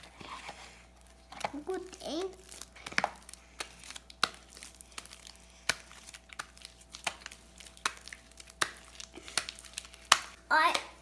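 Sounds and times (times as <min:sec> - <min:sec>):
slime popping and crackling: 0:00.9 - 0:11.0.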